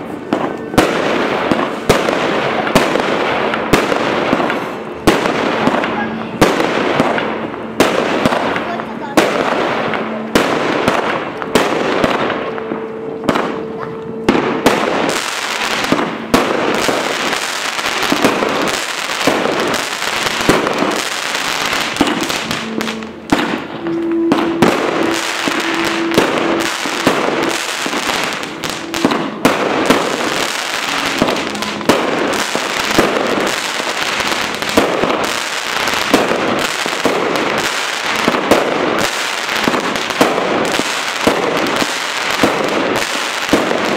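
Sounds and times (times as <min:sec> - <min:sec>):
crackling bursts: 0:00.0 - 0:43.9
firework battery bangs: 0:00.0 - 0:43.9.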